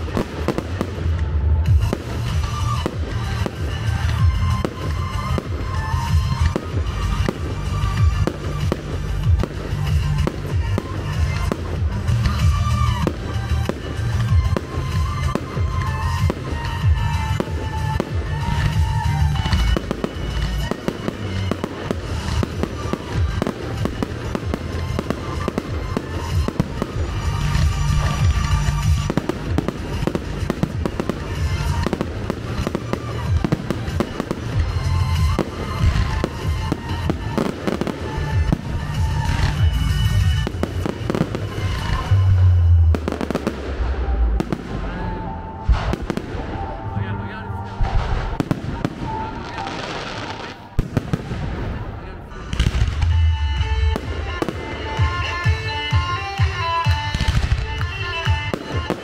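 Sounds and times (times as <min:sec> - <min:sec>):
fireworks launching and bursting: 0:00.0 - 0:59.0
music playing: 0:00.0 - 0:59.0.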